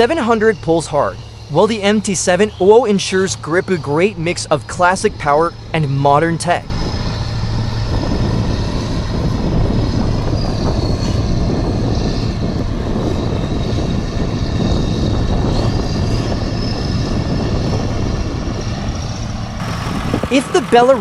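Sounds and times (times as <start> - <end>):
high engine whine: 0.0 - 21.0
tractor diesel engines rumbling: 0.0 - 21.0.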